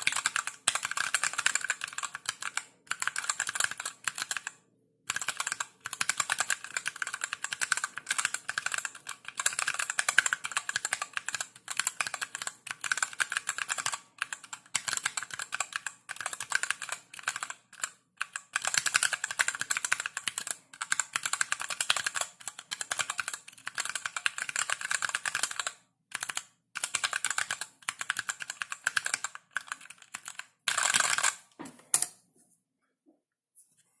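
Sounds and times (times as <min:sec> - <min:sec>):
typing on mechanical keyboard: 0:00.0 - 0:31.6.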